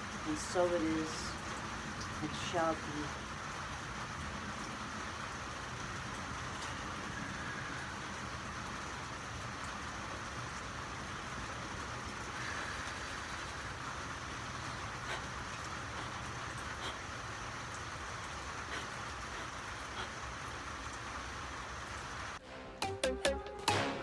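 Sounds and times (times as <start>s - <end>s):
rain falling on a car: 0.0s - 22.4s.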